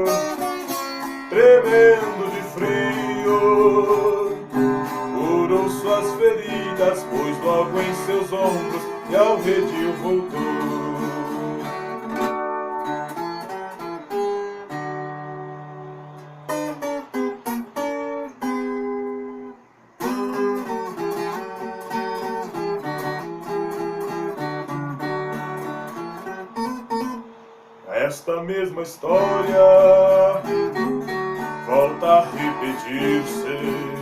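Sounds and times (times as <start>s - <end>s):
plucked folk guitar melody: 0.0s - 34.0s.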